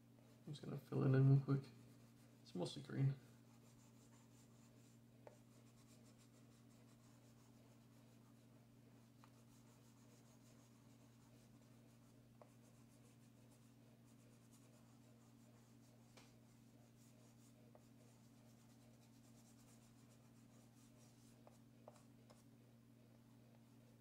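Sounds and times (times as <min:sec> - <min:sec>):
steady low hum: 0:00.0 - 0:24.0
chalk pastel scratching on paper: 0:01.8 - 0:02.5, 0:03.3 - 0:22.5.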